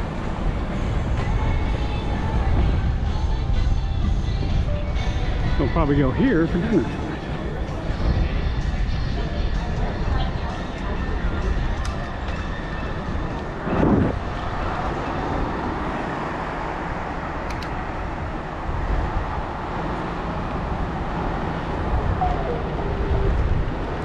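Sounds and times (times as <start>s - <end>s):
city street traffic: 0.0s - 24.0s
wind rumble on microphone: 0.0s - 24.0s.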